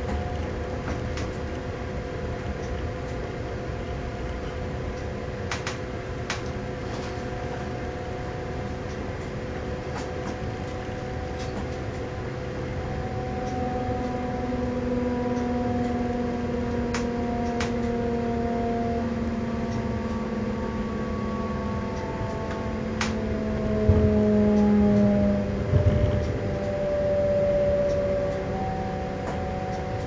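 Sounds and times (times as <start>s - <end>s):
multi-tone whine: 0.0s - 30.0s
train rumbling on rails: 0.0s - 30.0s.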